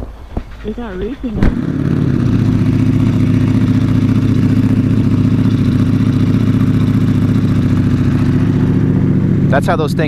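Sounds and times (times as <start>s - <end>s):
motorcycle engine idling: 0.4s - 10.0s.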